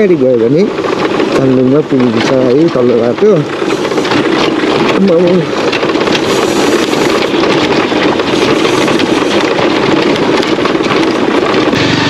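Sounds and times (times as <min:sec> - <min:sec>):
motorcycle engine running: 0:00.0 - 0:12.0
tyres on stony dirt track: 0:00.0 - 0:12.0.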